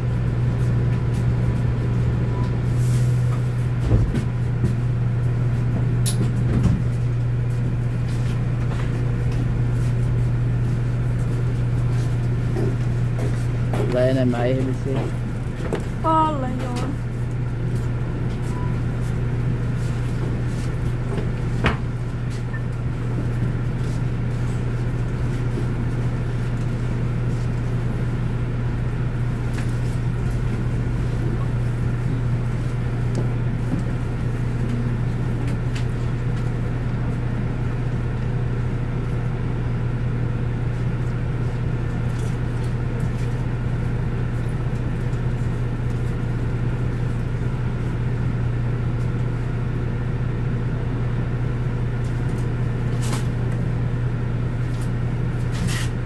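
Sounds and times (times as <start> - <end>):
bus interior low drone: 0.0 - 56.0.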